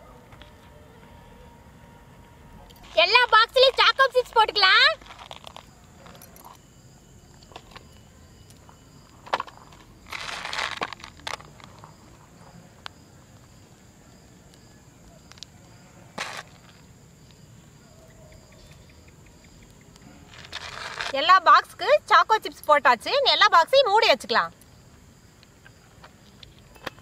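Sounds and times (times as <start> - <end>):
high-pitched insect hum: 0.8 - 27.0.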